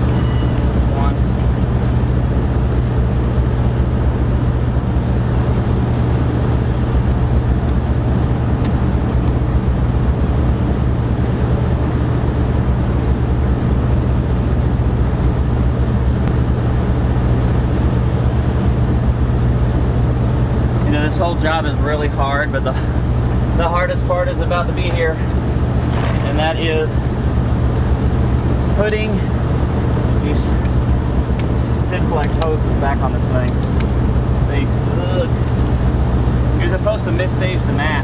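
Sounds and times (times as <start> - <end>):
low mechanical drone: 0.0 - 38.0.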